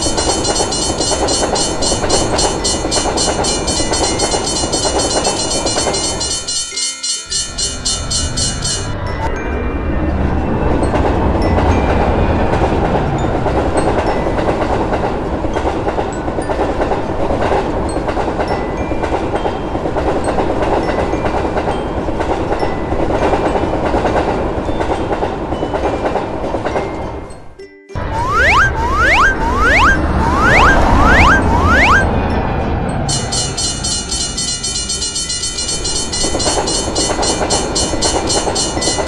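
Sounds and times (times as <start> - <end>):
train cars rumbling and rattling: 0.0 - 6.7, 7.3 - 27.3, 32.0 - 39.0
wheels clickety-clack: 0.0 - 9.3, 10.0 - 28.1, 30.0 - 39.0.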